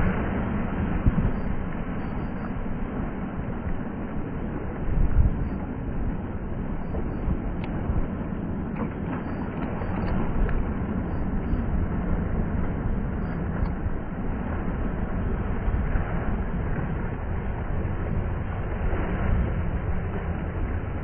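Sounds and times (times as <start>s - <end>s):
waves breaking on rocks: 0.0s - 21.0s
wind rumble on microphone: 0.0s - 21.0s.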